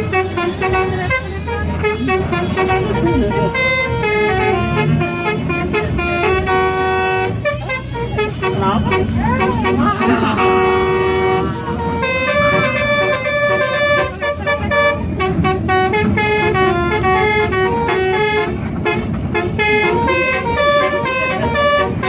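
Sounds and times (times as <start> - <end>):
musical bus horn tune: 0.0 - 22.0.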